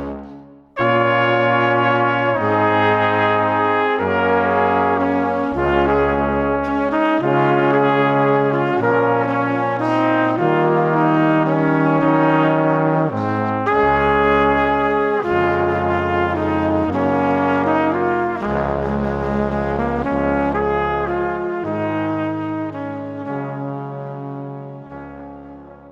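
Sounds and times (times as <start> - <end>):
brass playing slow chords: 0.0 - 25.9.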